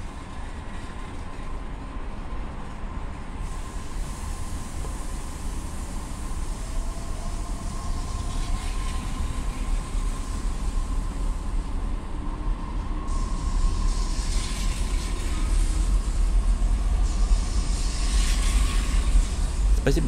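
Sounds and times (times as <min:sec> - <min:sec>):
faint whine: 0:00.0 - 0:20.0
train rumble: 0:00.0 - 0:20.0
hiss: 0:03.4 - 0:20.0.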